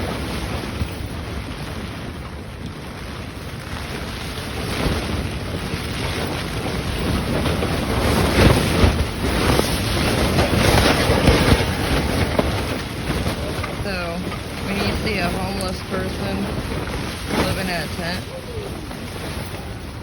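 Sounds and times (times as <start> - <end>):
wind gusts buffeting microphone: 0.0 - 20.0.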